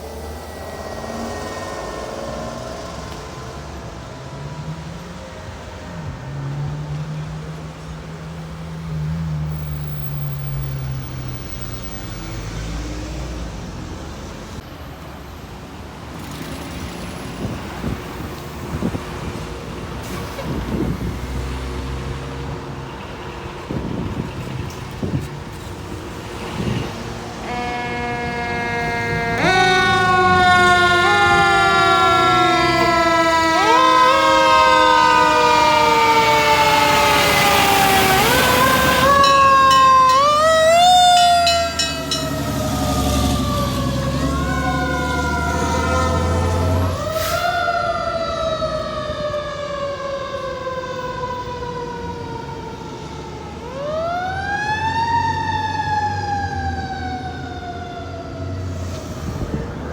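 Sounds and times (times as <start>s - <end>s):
fire engine siren: 0.0s - 14.7s, 17.4s - 59.9s.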